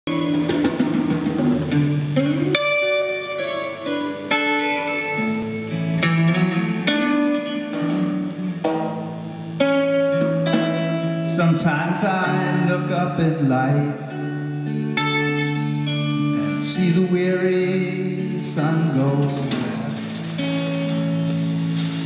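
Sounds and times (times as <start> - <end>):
electric guitar chords: 0.1 - 22.0.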